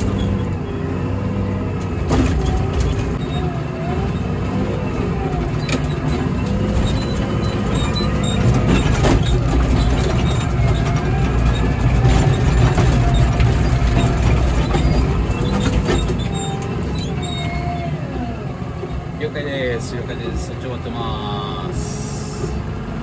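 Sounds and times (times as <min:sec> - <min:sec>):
short squeaking glides: 0:00.0 - 0:19.1
diesel engine under load: 0:00.0 - 0:23.0.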